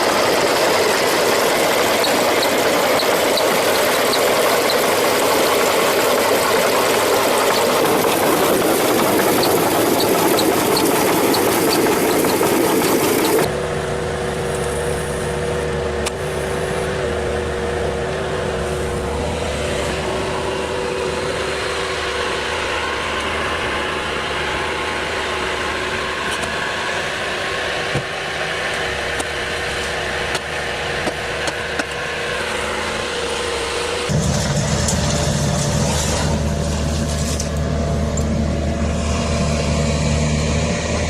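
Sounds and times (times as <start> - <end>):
heavy machine engine running: 0.0 - 41.0
steady whine: 0.0 - 41.0.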